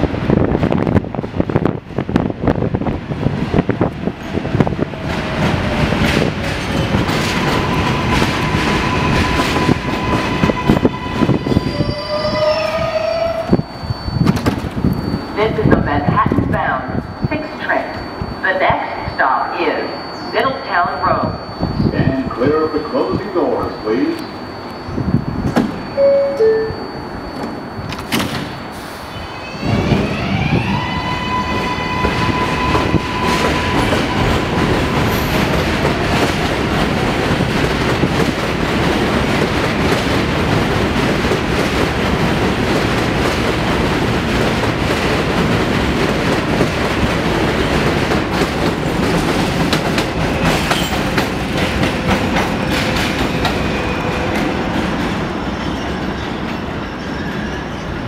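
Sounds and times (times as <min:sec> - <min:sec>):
wheels rumbling and clattering on rail: 0:00.0 - 0:58.0.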